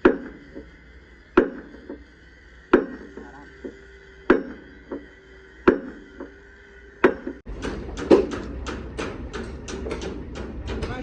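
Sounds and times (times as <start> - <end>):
hammer blows: 0.0 - 11.0
low hum: 0.0 - 11.0.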